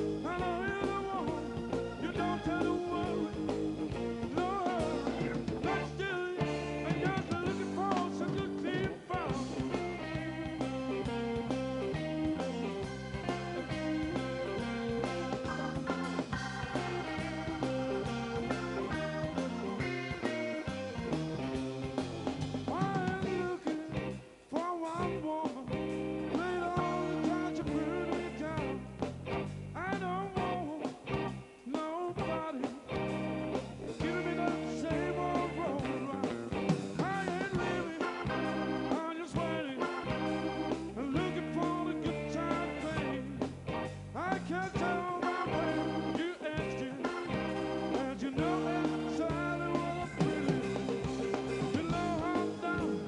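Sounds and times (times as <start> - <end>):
bending lead guitar line: 0.0 - 24.2, 25.0 - 53.0
blues-rock band playing: 0.0 - 53.0.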